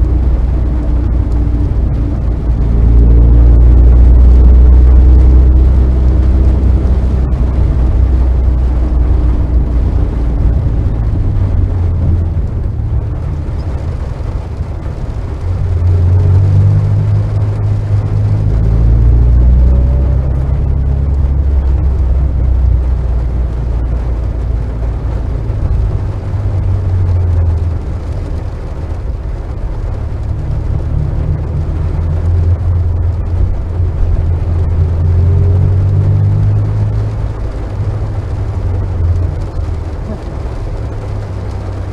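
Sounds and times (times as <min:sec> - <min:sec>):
car engine droning: 0:00.0 - 0:41.9
road noise: 0:00.0 - 0:41.9.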